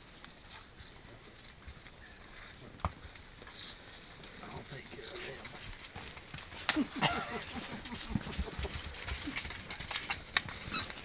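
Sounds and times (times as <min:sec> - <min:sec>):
horse hoof steps: 0:00.0 - 0:11.0.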